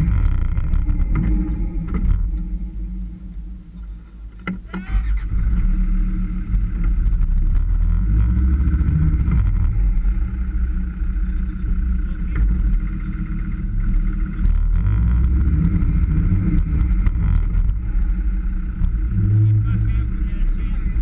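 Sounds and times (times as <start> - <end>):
off-road vehicle engine under load: 0.0 - 21.0.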